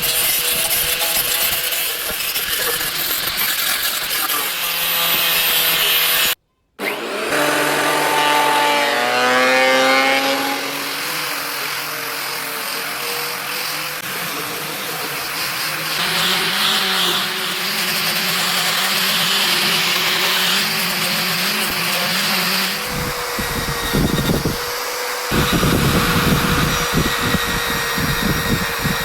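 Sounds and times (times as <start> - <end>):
power tool pitch sliding: 0.0 - 29.0
wood being sawn: 0.0 - 29.0.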